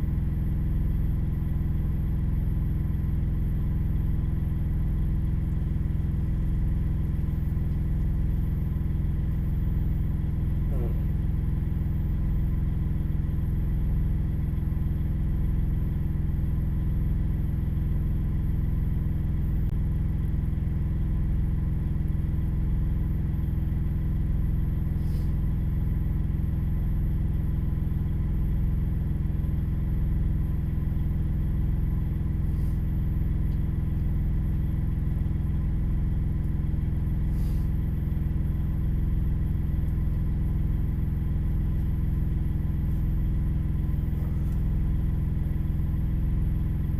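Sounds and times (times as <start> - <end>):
vehicle engine idling: 0.0 - 46.9.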